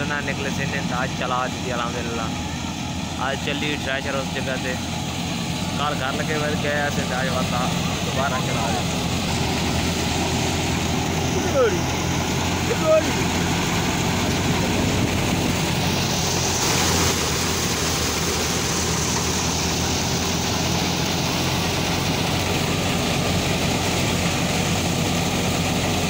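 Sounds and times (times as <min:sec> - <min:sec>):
crop thresher running: 0:00.0 - 0:26.0
tractor engine humming: 0:00.0 - 0:26.0
high rushing hiss: 0:04.2 - 0:26.0.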